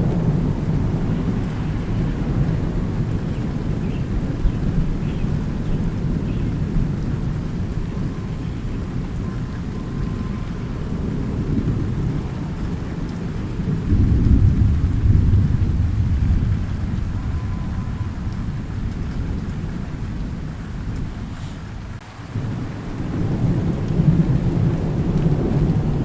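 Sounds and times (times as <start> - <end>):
rolling thunder: 0.0 - 26.0
steady rain: 0.0 - 26.0.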